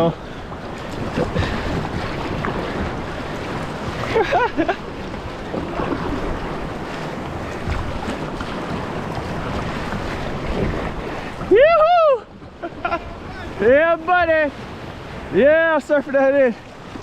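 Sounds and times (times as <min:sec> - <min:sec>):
wind buffeting microphone: 0:00.0 - 0:15.5
ocean surf washing: 0:00.0 - 0:17.0.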